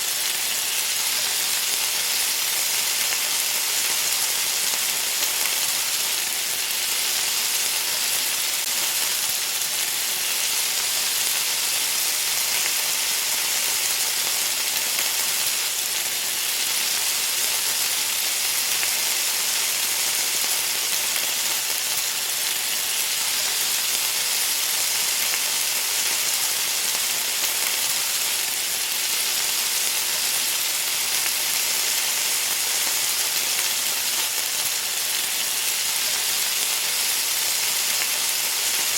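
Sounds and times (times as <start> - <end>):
food sizzling as it fries: 0.0 - 38.9.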